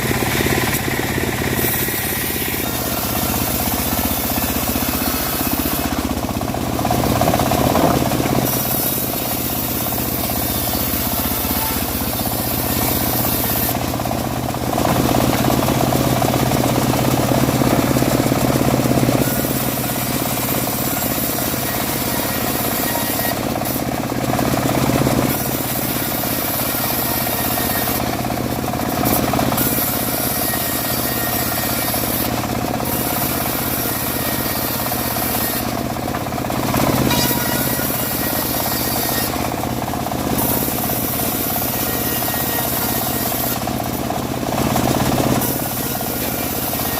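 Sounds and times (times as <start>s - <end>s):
bandsaw mill rattling drone: 0.0s - 46.9s.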